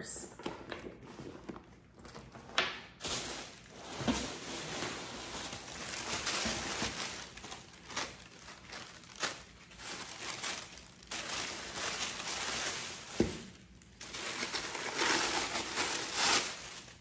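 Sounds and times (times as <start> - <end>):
tissue paper rustling: 1.0 - 17.0.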